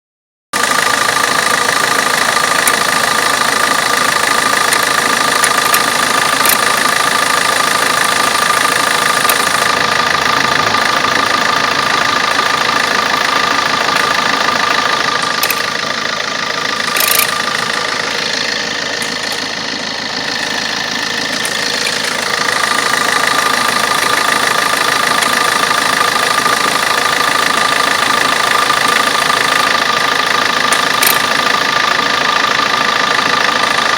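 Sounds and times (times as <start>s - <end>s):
diesel engine idling: 0.6s - 33.9s
engine clicking noise: 0.6s - 33.9s.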